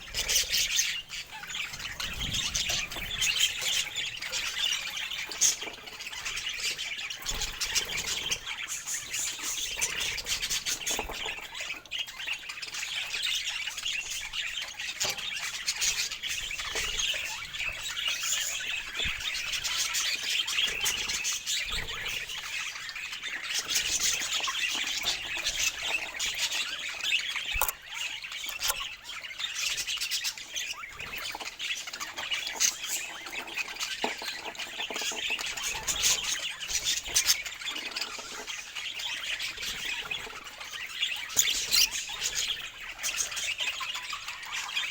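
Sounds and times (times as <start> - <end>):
parakeets chattering and squawking: 0.0 - 44.9.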